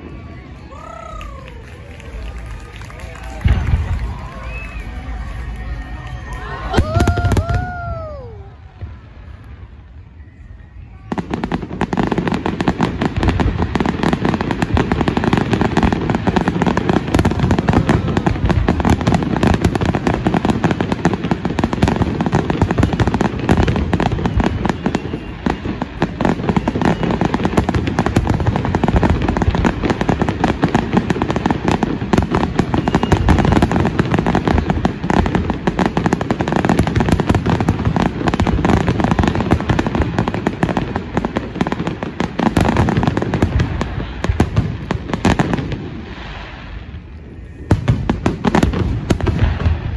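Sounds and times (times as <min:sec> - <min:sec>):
fireworks bursts and crackling: 0:00.0 - 0:49.9.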